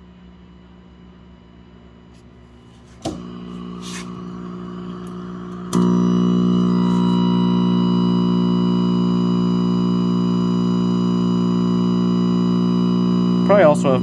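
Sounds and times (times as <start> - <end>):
television electrical buzz: 2.0 - 14.0
faint high thin whine: 2.2 - 14.0.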